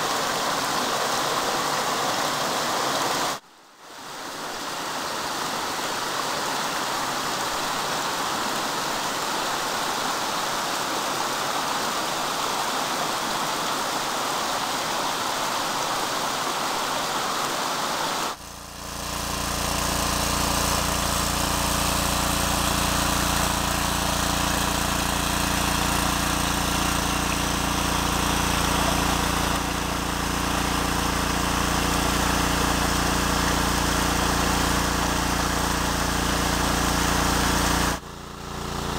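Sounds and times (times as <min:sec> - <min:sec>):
small engine water pump: 0:00.0 - 0:03.4, 0:04.1 - 0:38.9
creek running over rocks: 0:00.0 - 0:38.9.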